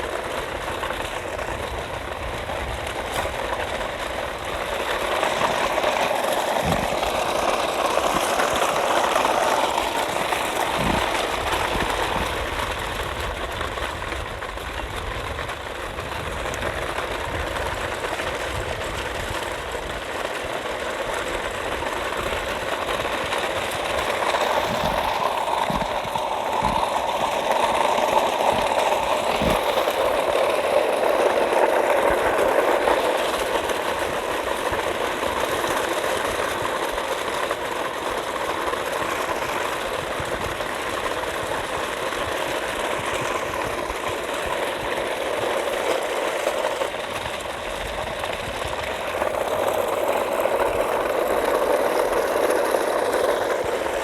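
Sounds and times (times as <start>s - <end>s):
small motor whirring: 0.0s - 14.0s, 16.0s - 54.0s.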